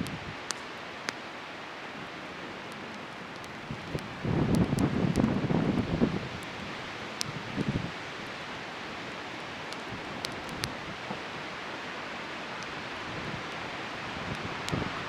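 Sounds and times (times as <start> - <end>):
bonfire hissing: 0.0 - 15.0
fire crackles and pops: 0.0 - 15.0.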